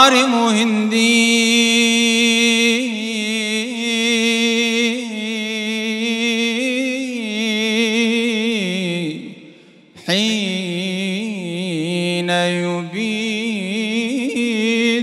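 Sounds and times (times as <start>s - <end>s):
man chanting unaccompanied: 0.0s - 9.4s, 10.0s - 15.0s.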